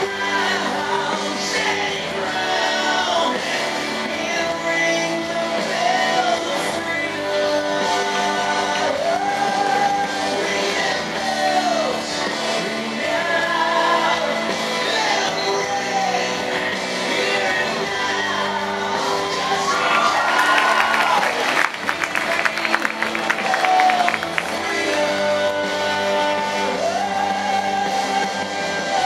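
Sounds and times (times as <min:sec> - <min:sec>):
song over loudspeakers: 0:00.0 - 0:29.0.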